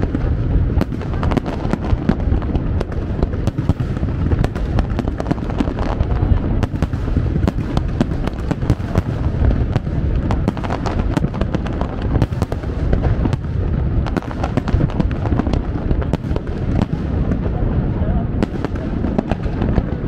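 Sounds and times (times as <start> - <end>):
fireworks cracks and pops: 0.0 - 20.0
low rumble of firework bursts: 0.0 - 20.0.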